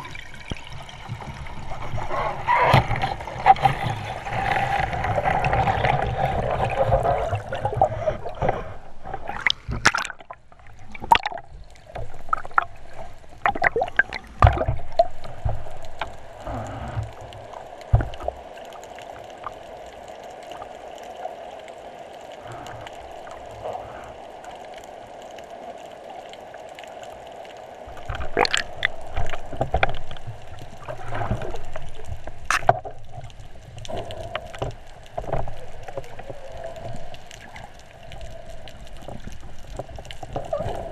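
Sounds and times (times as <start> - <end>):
underwater water sloshing: 0.0 - 40.9.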